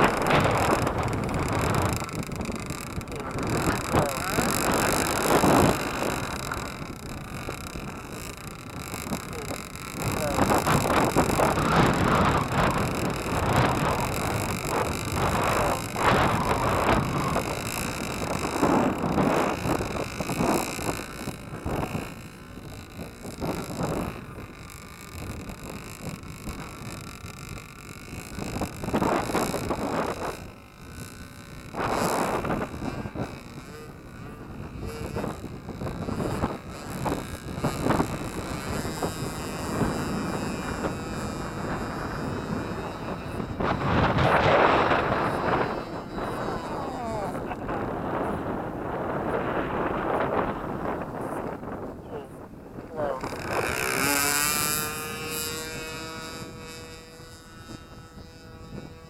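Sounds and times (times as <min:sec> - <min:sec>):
model plane engine buzzing: 0:00.0 - 0:59.0
wind buffeting microphone: 0:00.0 - 0:59.0.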